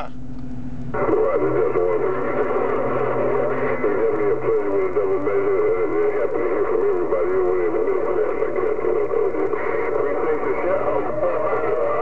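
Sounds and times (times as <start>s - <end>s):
radio static: 0.9s - 12.0s
warbling radio tones: 0.9s - 12.0s.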